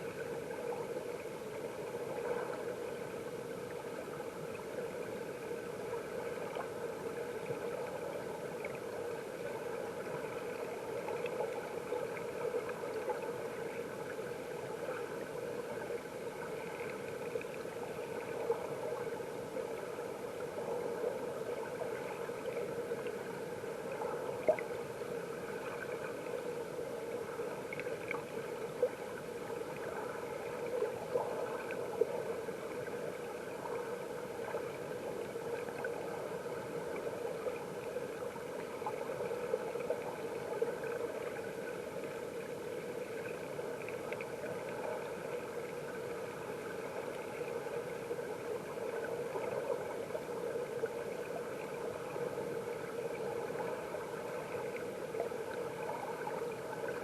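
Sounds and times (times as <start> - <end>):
underwater stream rushing: 0.0 - 57.0.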